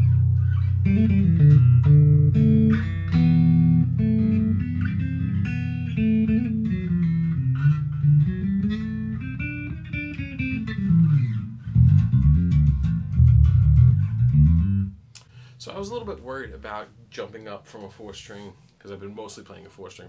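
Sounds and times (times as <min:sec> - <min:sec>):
bass guitar played with fingers: 0:00.0 - 0:16.7.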